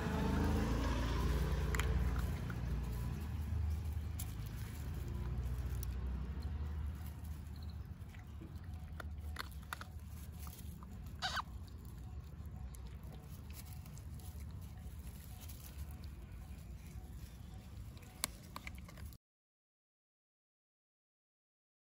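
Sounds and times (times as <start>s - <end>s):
low steady rumble: 0.0s - 19.2s
puppies crunching kibble: 0.0s - 19.2s
rustling leaves: 0.0s - 19.2s.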